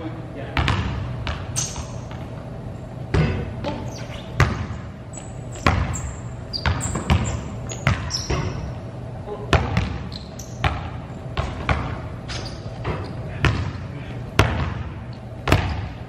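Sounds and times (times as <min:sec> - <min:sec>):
basketballs bouncing on gym floor: 0:00.4 - 0:02.4, 0:03.1 - 0:16.0
sneaker squeaks: 0:00.6 - 0:02.5, 0:03.1 - 0:08.9, 0:09.5 - 0:16.0.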